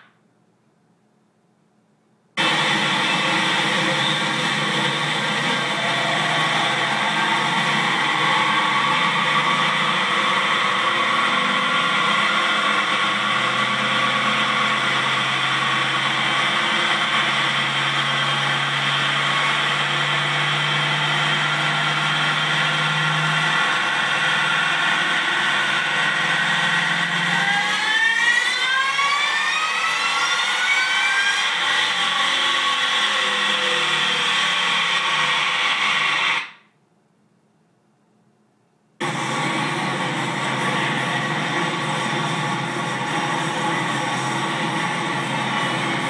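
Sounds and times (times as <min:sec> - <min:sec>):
supercharged engine revving: 0:02.4 - 0:36.6, 0:39.0 - 0:46.0
supercharger whine: 0:02.4 - 0:36.7, 0:39.0 - 0:46.0.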